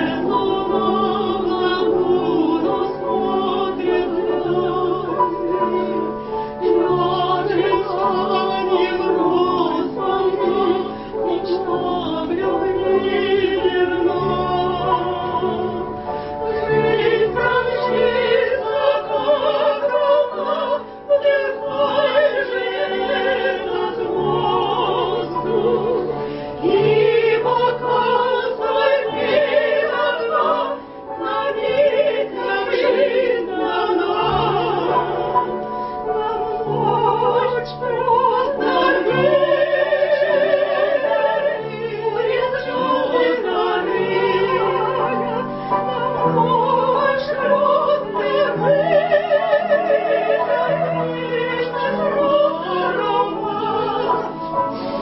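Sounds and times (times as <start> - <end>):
vocal ensemble singing operatically: 0.0 - 55.0.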